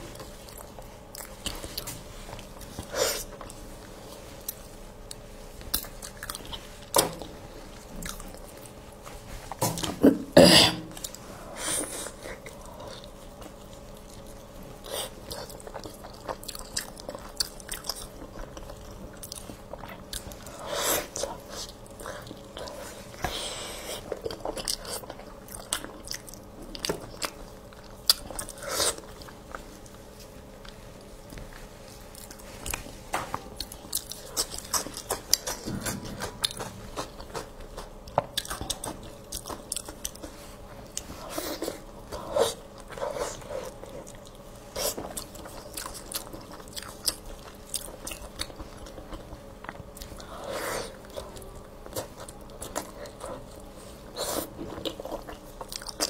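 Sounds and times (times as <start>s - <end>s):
person chewing meat: 0.0s - 56.0s.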